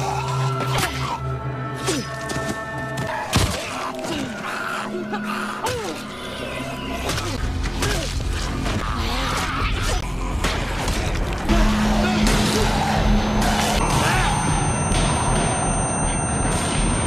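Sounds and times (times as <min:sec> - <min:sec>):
tense drama music: 0:00.0 - 0:17.0.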